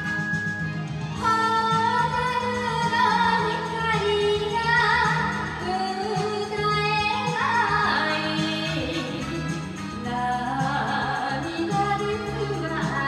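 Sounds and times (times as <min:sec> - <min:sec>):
karaoke backing track: 0:00.0 - 0:13.0
woman singing into microphone: 0:01.2 - 0:13.0.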